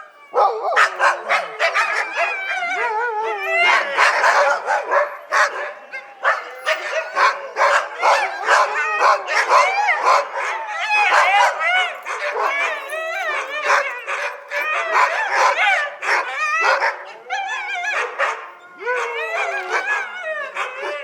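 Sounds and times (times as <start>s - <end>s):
dog whining: 0.0s - 21.0s
dog barking and yipping: 0.3s - 2.5s, 3.6s - 17.2s, 17.9s - 21.0s.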